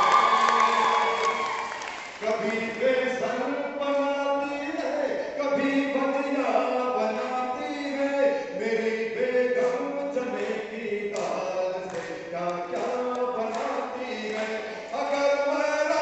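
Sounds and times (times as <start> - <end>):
man singing into a microphone: 0.0 - 1.6, 2.2 - 16.0.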